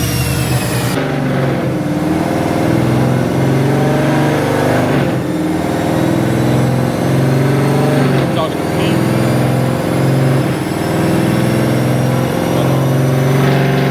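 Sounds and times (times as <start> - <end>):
car engine with choppy idle: 0.0 - 13.9.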